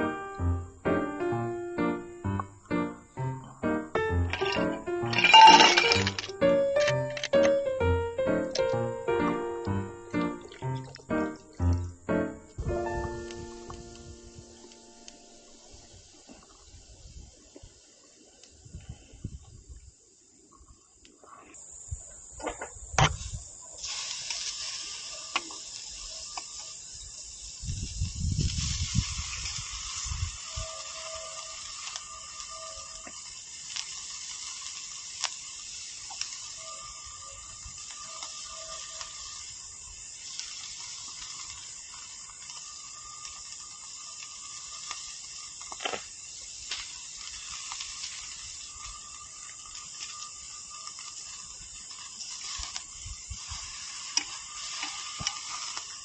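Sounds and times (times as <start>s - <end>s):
fire crackles and pops: 0.0s - 18.8s, 23.0s - 56.0s
meat sizzling on a grill: 2.2s - 19.1s, 23.1s - 56.0s.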